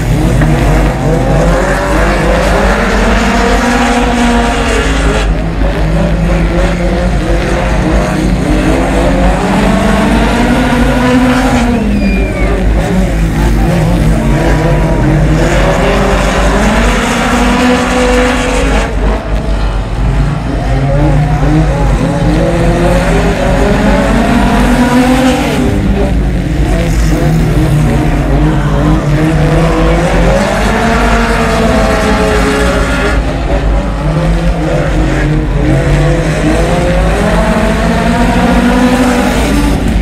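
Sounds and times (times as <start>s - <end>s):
race car engines revving: 0.0s - 40.0s.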